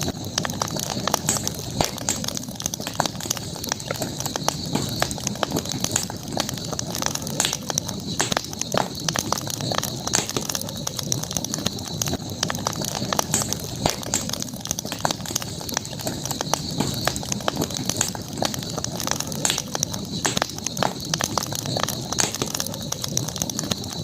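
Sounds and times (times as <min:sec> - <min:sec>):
campfire crackling and popping: 0:00.0 - 0:24.0
steady high hiss: 0:00.0 - 0:24.0.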